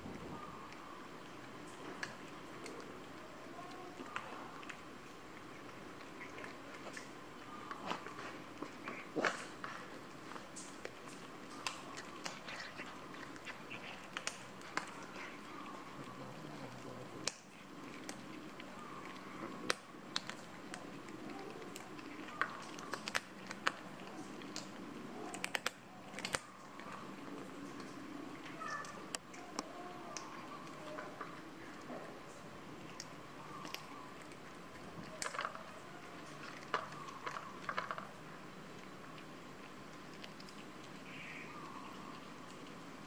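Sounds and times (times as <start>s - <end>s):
cats crunching fish bones: 0.0s - 43.0s.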